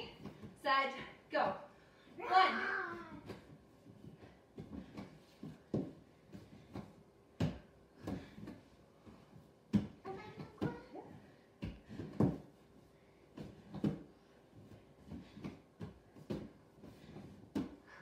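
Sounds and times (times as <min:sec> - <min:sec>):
thumps and shuffles on gym mat: 0:00.0 - 0:18.0.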